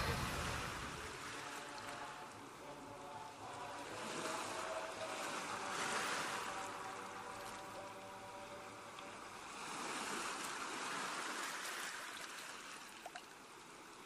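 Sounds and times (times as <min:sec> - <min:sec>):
sea surf washing ashore: 0:00.0 - 0:14.0.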